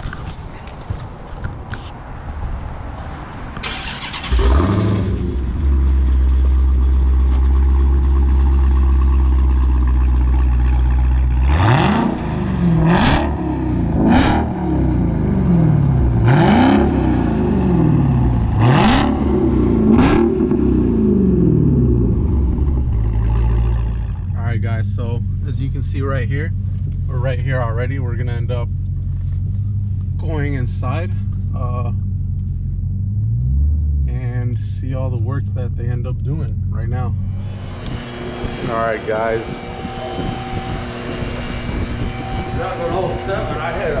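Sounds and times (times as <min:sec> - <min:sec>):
car engine idling and revving: 0:00.0 - 0:44.0
car engine starting: 0:02.6 - 0:44.0.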